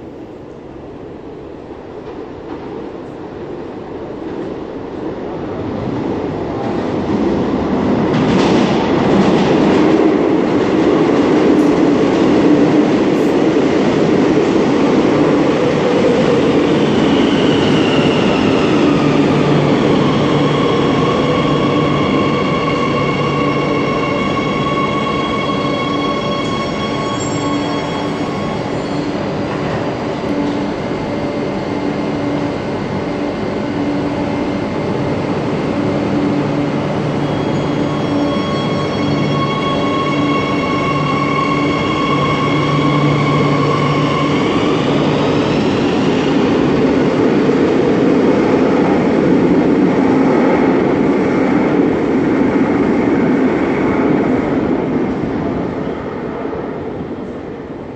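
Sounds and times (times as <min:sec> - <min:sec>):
electric train rumble: 0:00.0 - 0:57.9
train hum: 0:00.0 - 0:57.9.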